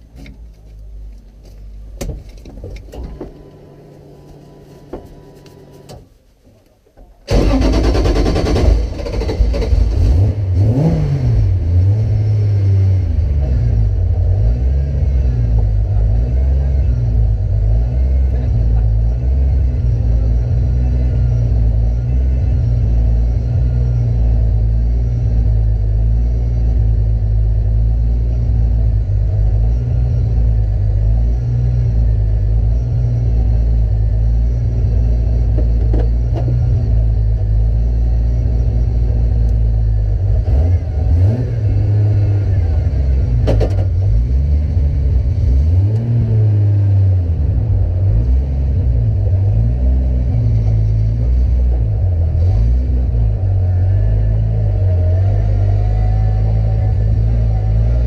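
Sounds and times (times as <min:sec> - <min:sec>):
car engine starting and idling: 0:00.0 - 0:58.0.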